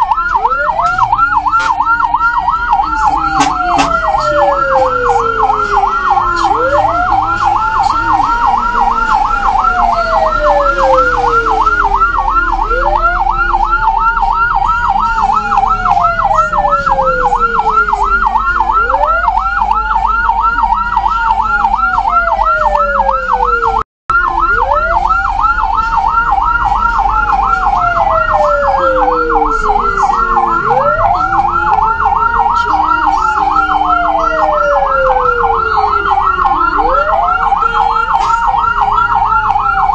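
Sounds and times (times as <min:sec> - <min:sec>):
ambulance siren fast warble: 0:00.0 - 0:39.9
ambulance siren slow wail: 0:00.0 - 0:39.9.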